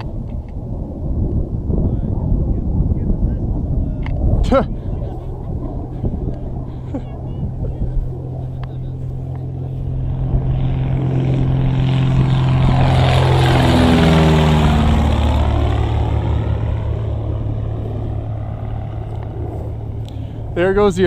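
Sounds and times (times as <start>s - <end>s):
aircraft flying past: 0.0s - 21.0s
steady low hum: 0.0s - 21.0s.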